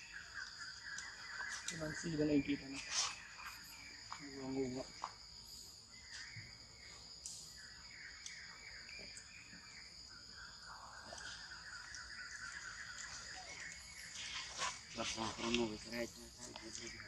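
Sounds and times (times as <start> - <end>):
insect drone: 0.0 - 17.0.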